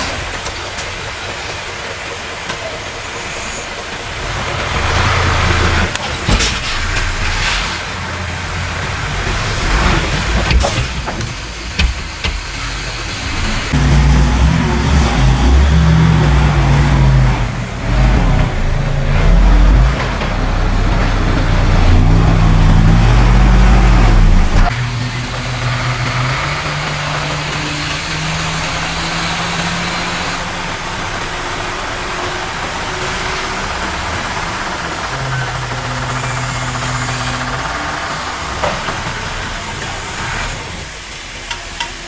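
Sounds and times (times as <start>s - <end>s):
heavy machinery diesel engine: 0.0s - 42.0s.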